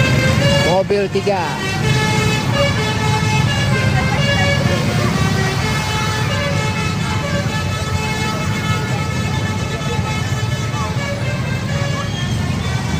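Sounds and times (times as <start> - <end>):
crowd voices: 0.0 - 12.9
motorbike engines rumbling: 0.0 - 12.9
multi-tone bus horn: 0.0 - 12.9.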